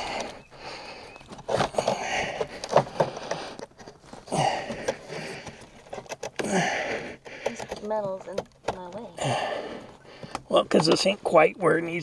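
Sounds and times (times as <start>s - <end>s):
rustling and scraping: 0.0s - 12.0s.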